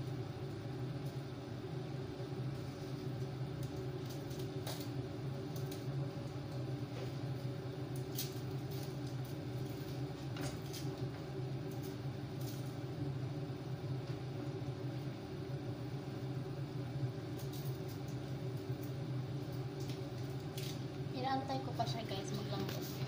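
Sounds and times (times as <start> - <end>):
range hood fan humming: 0.0 - 23.0.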